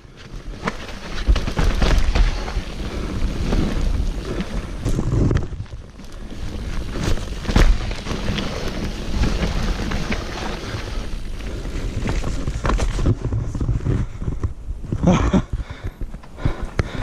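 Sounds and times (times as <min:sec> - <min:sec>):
bike tyre rumble: 0:00.0 - 0:17.0
wind buffeting camera microphone: 0:00.0 - 0:17.0
bike knocks and rattles: 0:00.1 - 0:17.0.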